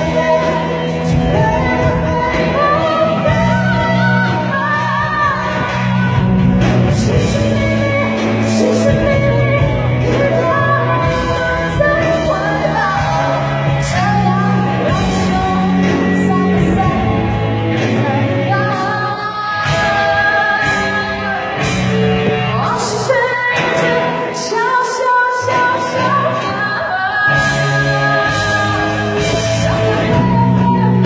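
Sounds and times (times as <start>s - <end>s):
pop-rock band playing: 0.0s - 31.0s.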